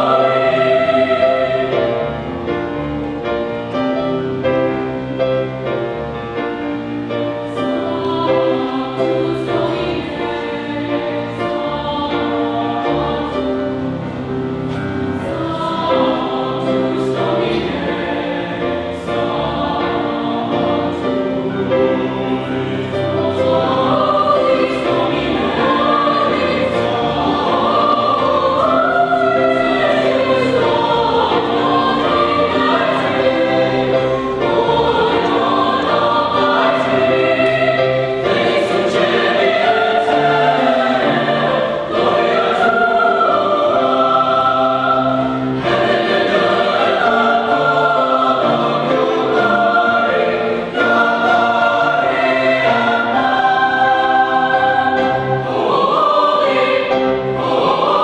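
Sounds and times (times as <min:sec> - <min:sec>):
youth choir singing in parts: 0:00.0 - 0:58.0.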